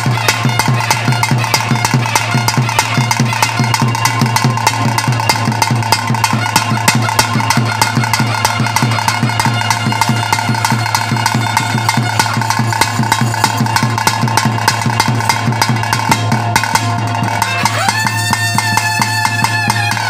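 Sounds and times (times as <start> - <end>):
fast steady drumming: 0.0 - 20.0.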